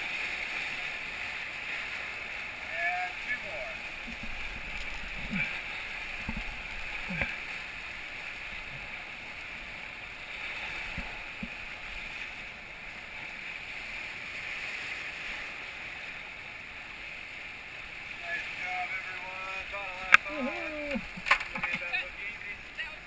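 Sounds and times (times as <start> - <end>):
whitewater rapids rushing: 0.0 - 23.0.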